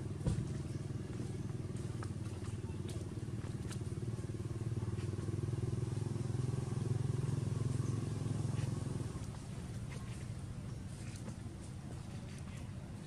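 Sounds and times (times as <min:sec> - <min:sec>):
small motor engine running: 0:00.0 - 0:12.8.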